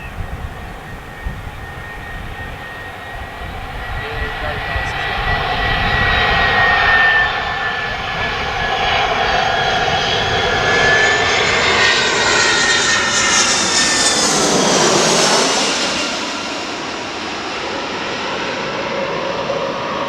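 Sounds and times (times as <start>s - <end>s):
jet airliner passing by: 0.0s - 20.0s.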